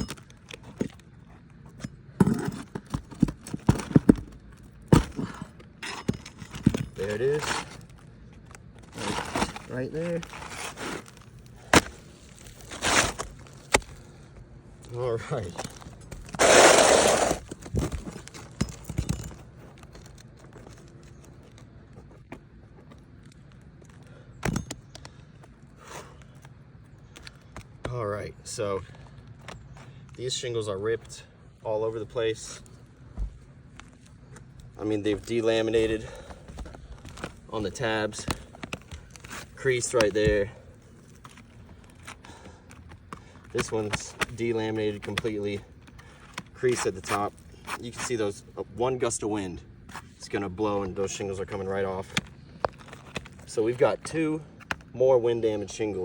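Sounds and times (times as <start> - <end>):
handling rustling: 0.0 - 27.9, 32.4 - 48.6, 50.9 - 54.9
shingle scraping: 0.0 - 27.9, 31.7 - 55.6.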